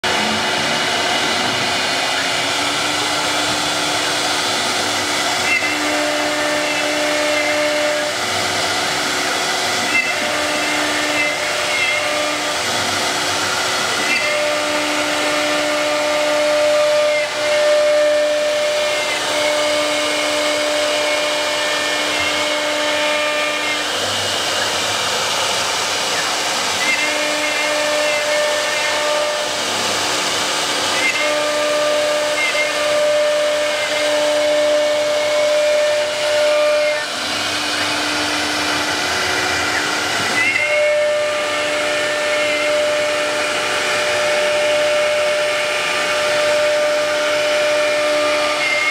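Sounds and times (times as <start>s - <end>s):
router spindle cutting noise: 0.0s - 48.9s
whining drive motors: 0.0s - 48.9s.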